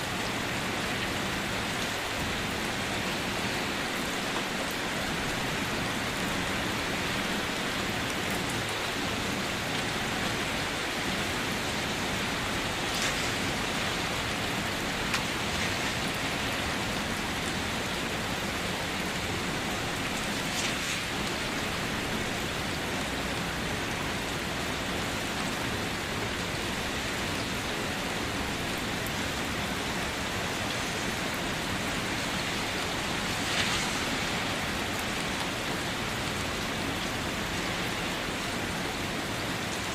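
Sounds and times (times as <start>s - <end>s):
individual raindrops: 0.0s - 39.9s
light rain pattering: 0.0s - 39.9s.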